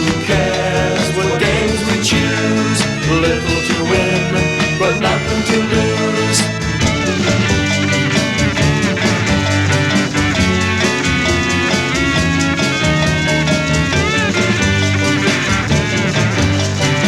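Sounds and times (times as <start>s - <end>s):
bending lead guitar notes: 0.0s - 17.0s
psychedelic rock band playing: 0.0s - 17.0s.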